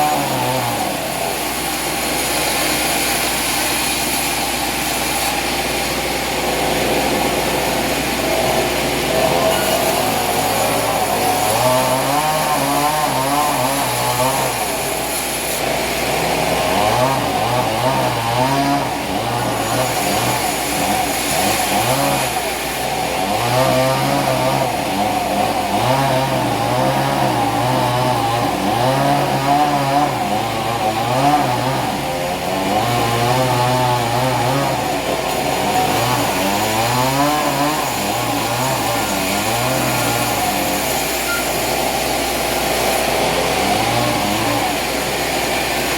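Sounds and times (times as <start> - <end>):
small engine running: 0.0 - 45.9.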